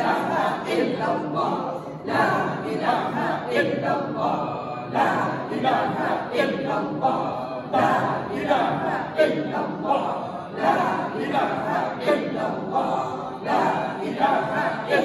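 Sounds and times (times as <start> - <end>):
voices chanting prayers in unison: 0.0 - 15.0.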